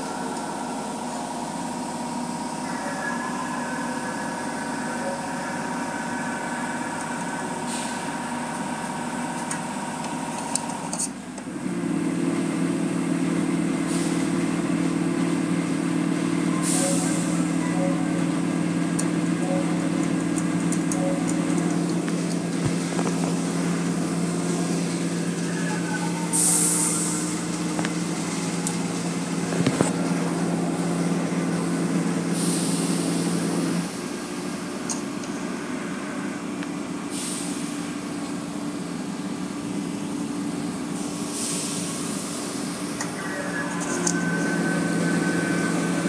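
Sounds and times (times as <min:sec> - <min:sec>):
car wash machine hum: 0:00.0 - 0:46.0.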